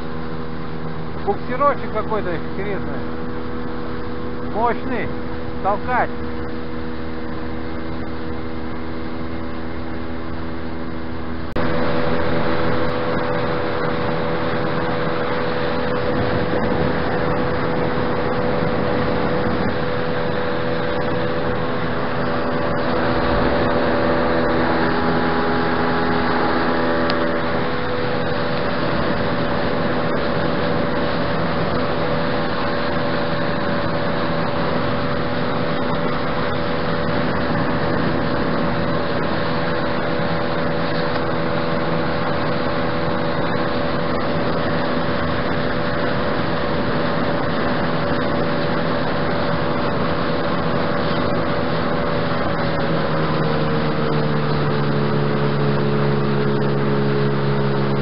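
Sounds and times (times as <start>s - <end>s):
outboard motor running: 0.0s - 58.0s
water noise: 0.0s - 58.0s
wind noise: 0.0s - 58.0s.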